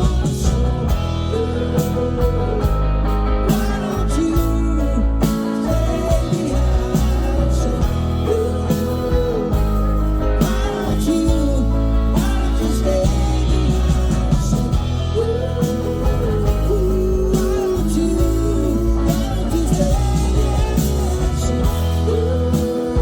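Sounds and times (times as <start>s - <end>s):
bass guitar: 0.0s - 23.0s
drums: 0.0s - 23.0s
electric guitars: 0.0s - 23.0s
person singing: 0.0s - 23.0s.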